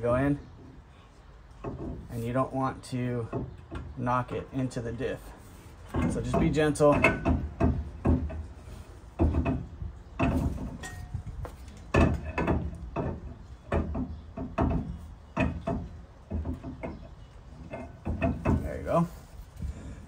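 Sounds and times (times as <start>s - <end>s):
metal axle clunks and knocks: 1.5s - 5.0s, 5.8s - 20.0s.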